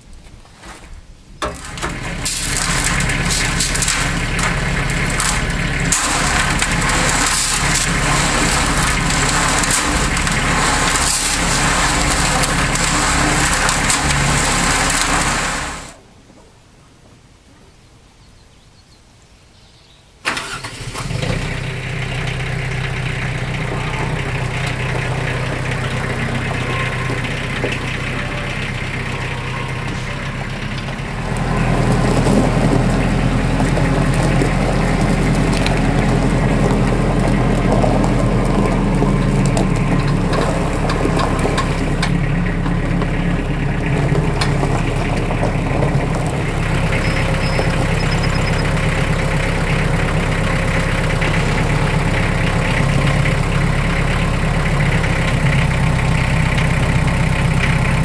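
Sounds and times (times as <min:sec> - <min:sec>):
tractor engine running: 0:01.4 - 0:16.0, 0:20.3 - 0:58.0.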